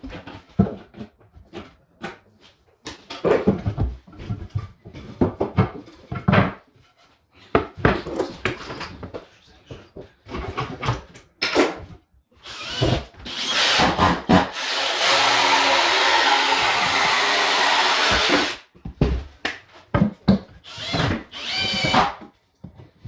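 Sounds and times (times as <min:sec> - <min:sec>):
tools knocking and scraping wood: 0:00.0 - 0:23.0.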